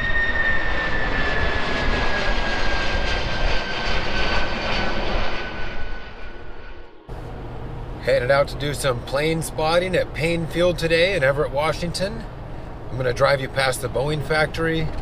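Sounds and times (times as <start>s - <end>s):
jet engine roar with high whine: 0.0s - 15.0s.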